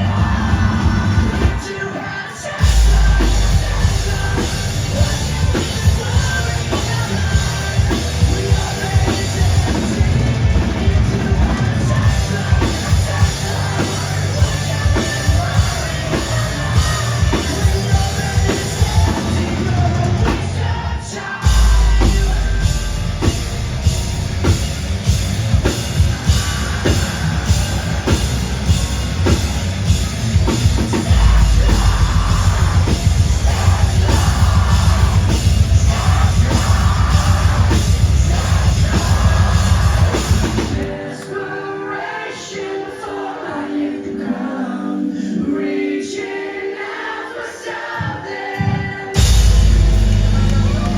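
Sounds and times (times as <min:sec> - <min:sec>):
deep heavy bass: 0:00.0 - 0:01.6, 0:02.6 - 0:20.7, 0:21.4 - 0:40.8, 0:49.2 - 0:50.9
pounding drum beat: 0:00.0 - 0:40.9, 0:49.2 - 0:50.9
live rock band playing: 0:00.0 - 0:41.3, 0:49.1 - 0:50.9
sung and yelled vocals: 0:00.0 - 0:50.9.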